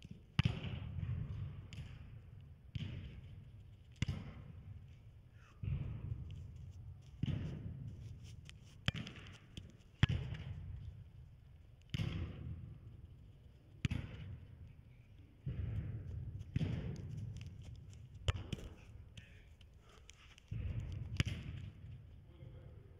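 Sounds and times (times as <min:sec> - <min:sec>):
soccer ball kicks echoing: 0:00.0 - 0:05.0, 0:05.6 - 0:19.4, 0:20.4 - 0:22.3.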